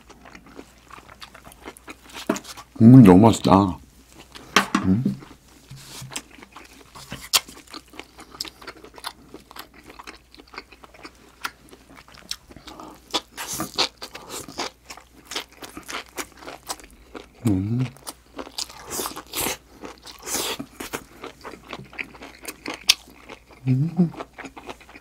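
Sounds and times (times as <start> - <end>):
wet chewing and crunching: 0.0 - 2.8, 5.2 - 25.0.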